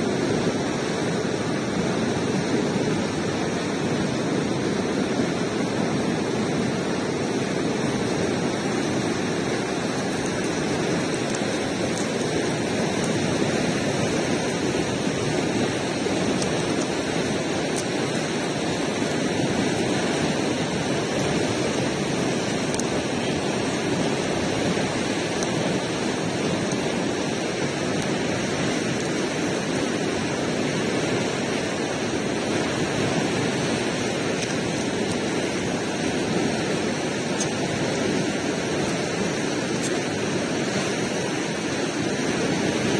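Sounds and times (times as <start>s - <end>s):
steady rushing noise: 0.0s - 42.9s.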